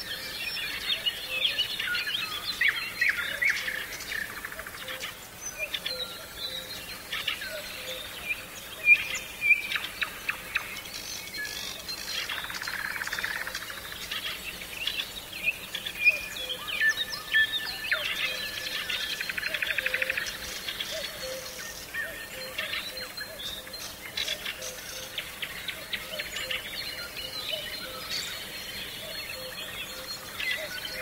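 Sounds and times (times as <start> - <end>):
wild birds chirping: 0.0 - 31.0.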